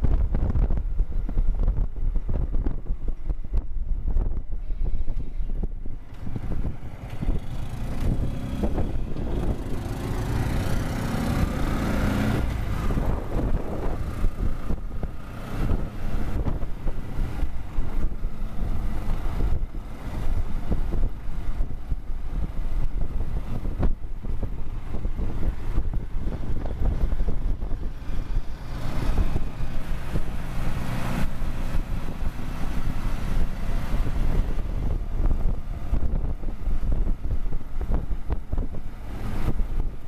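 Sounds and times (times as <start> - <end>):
motorcycle engine rumbling: 0.0 - 40.0
wind buffeting microphone: 0.0 - 40.0.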